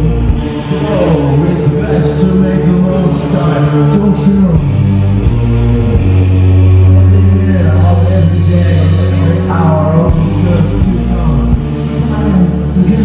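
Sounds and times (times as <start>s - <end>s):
man singing into microphone: 0.0s - 4.8s, 5.8s - 13.0s
heavy low bass note: 0.0s - 13.0s
live rock band playing: 0.0s - 13.0s.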